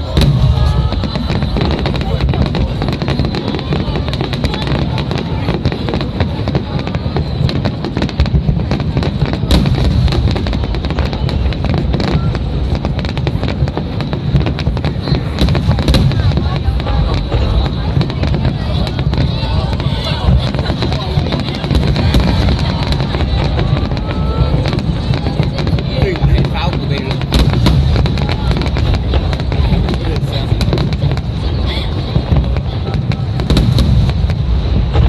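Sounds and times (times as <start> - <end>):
fireworks bangs and crackling: 0.0 - 35.0
sharp firework crack: 0.0 - 35.0.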